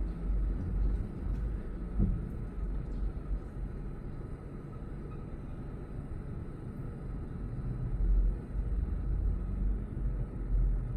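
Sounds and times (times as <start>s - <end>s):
street traffic: 0.0s - 10.9s.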